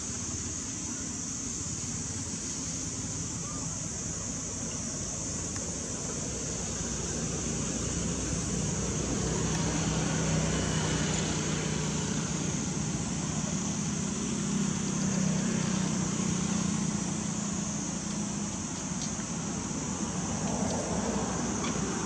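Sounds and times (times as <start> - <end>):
constant hiss: 0.0 - 22.0
low mechanical hum: 0.0 - 22.0.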